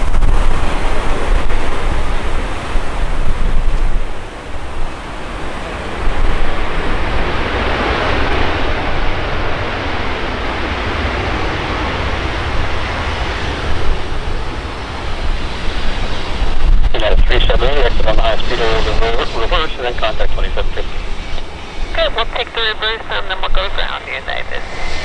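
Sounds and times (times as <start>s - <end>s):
jet airliner landing roar: 0.0s - 25.0s
wind buffeting microphone: 0.0s - 25.0s.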